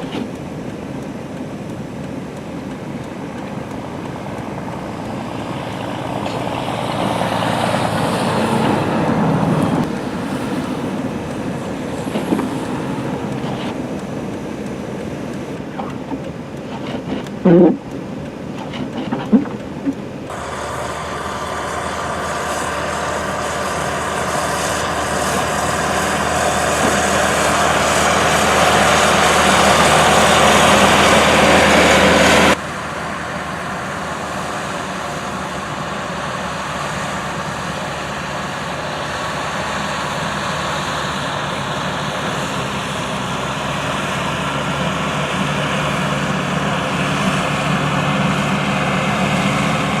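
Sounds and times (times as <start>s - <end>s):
traffic on a snowy road: 0.0s - 50.0s.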